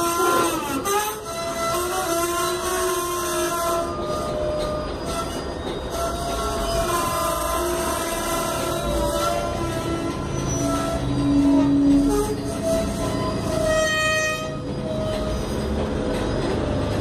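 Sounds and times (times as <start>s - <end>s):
rumble of rail cars rolling: 0.0s - 17.0s
train wheels squealing on rails: 0.0s - 17.0s.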